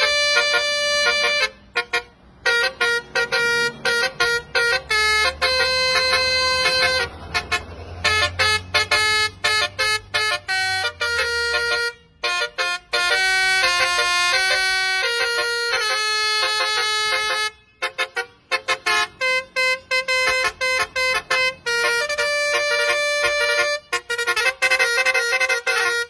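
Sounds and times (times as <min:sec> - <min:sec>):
horn blasts: 0:00.0 - 0:26.0.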